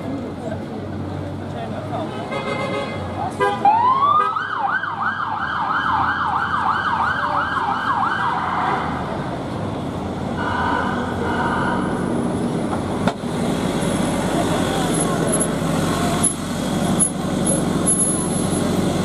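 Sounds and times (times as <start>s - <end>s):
city traffic noise: 0.0s - 19.0s.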